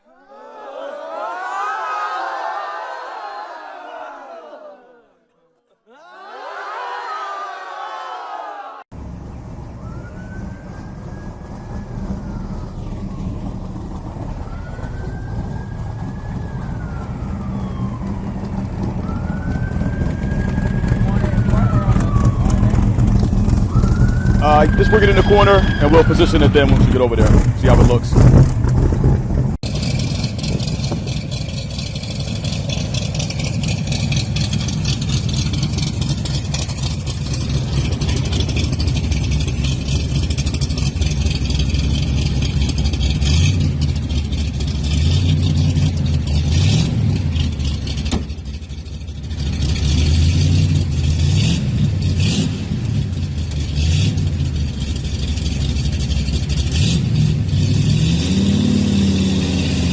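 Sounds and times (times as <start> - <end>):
car engine idling and revving: 8.9 - 59.9.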